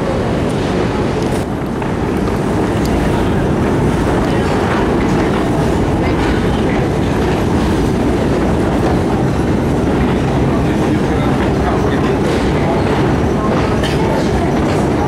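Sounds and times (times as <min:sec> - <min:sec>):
escalator rumbling: 0:00.0 - 0:15.0
escalator steps clattering: 0:00.5 - 0:15.0.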